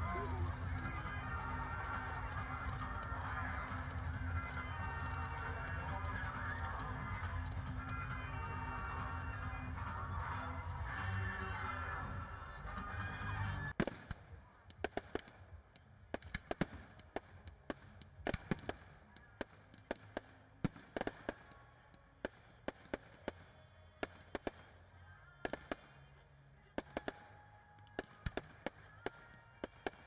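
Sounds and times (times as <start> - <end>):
fireworks bangs and cracks: 0.0 - 26.0, 26.8 - 30.0.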